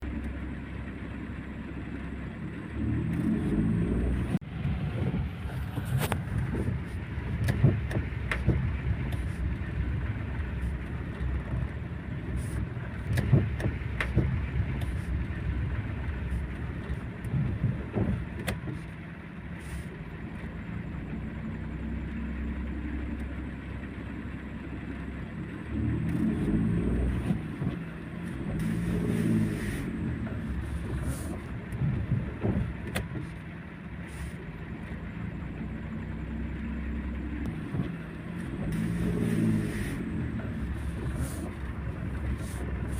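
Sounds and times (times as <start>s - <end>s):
vehicle engine revving while driving: 0.0s - 42.9s.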